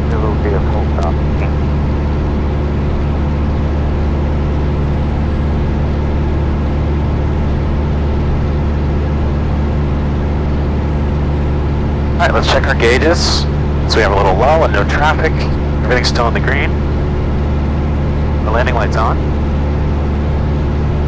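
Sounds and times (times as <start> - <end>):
light aircraft engine and propeller drone: 0.0 - 21.0.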